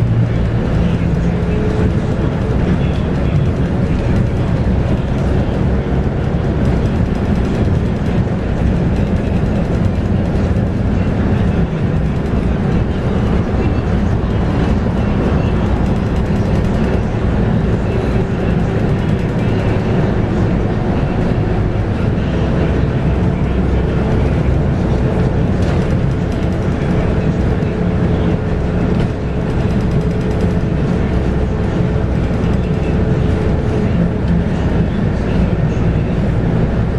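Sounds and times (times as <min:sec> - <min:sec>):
bus diesel engine running: 0:00.0 - 0:36.9
road noise: 0:00.0 - 0:36.9.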